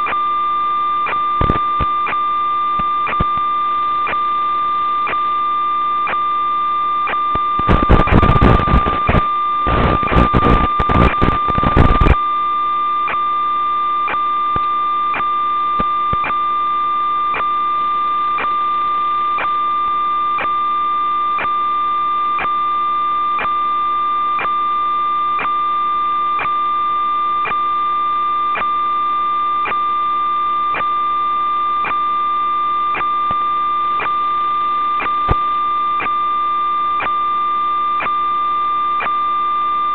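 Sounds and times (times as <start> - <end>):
crackling static: 0.0 - 39.9.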